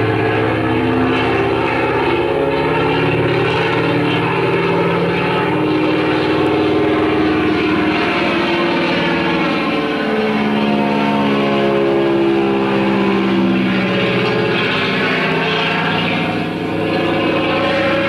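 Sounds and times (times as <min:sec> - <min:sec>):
propeller aircraft engine running: 0:00.0 - 0:18.0.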